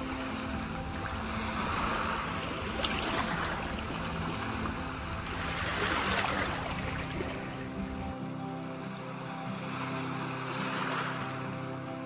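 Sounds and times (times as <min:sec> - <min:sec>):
small waves over pebbles: 0:00.0 - 0:12.0.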